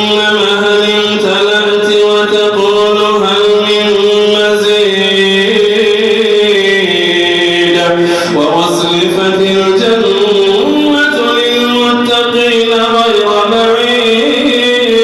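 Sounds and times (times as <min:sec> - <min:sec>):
man chanting quran recitation: 0:00.0 - 0:15.0.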